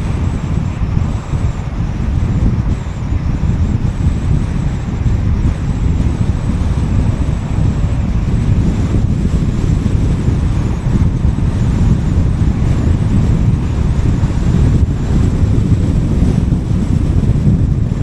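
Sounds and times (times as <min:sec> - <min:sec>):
car road and wind noise: 0:00.0 - 0:18.0.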